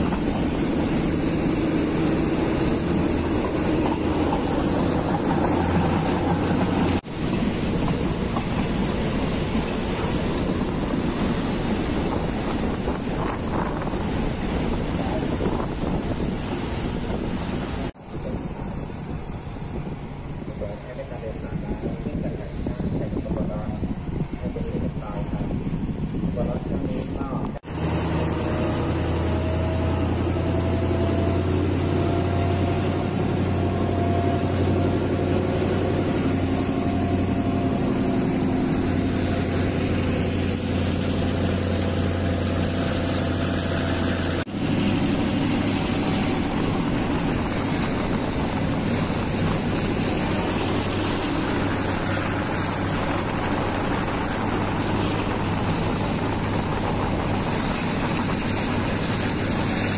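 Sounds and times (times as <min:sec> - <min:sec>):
rushing air: 0:00.0 - 0:59.9
train engine: 0:00.0 - 0:59.9
wheels on rail: 0:00.0 - 0:59.9.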